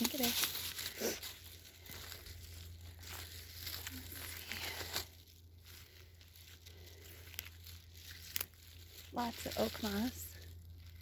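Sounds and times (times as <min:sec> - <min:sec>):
bag crinkling and rustling: 0:00.0 - 0:11.0.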